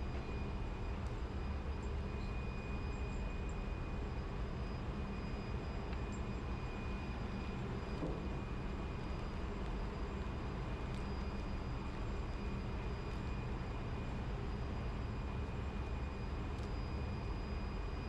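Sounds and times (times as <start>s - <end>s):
low machinery drone: 0.0s - 18.0s.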